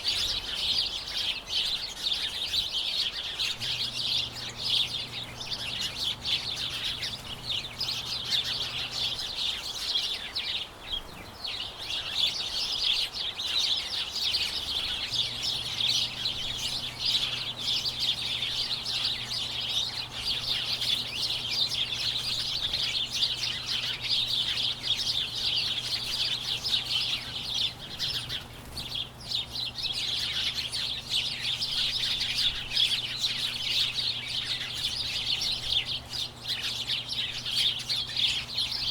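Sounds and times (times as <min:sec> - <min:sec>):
flock of small birds chirping: 0:00.0 - 0:38.9.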